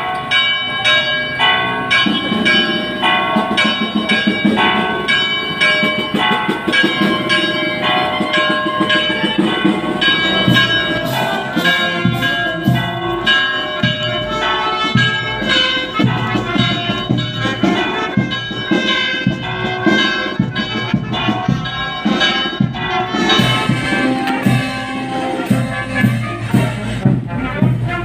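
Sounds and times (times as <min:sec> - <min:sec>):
church bells ringing: 0:00.0 - 0:28.0.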